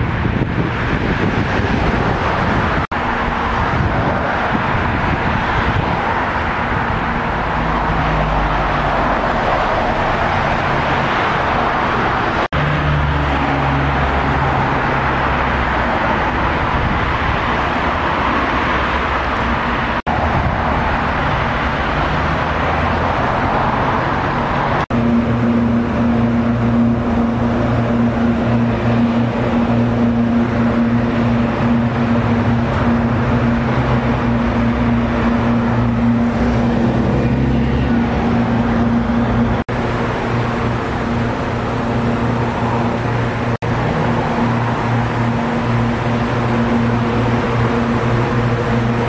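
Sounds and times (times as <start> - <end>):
road and wind noise: 0.0 - 49.0
vehicle engine hum: 0.0 - 49.0.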